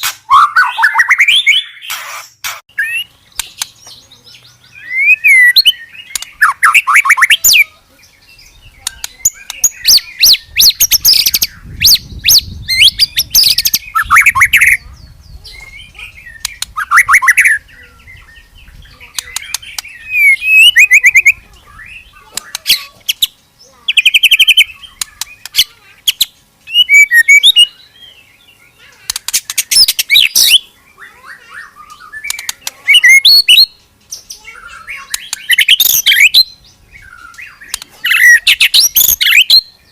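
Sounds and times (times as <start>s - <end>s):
soft bird chirps: 0.0s - 39.9s
songbird trills and whistles: 0.0s - 39.9s.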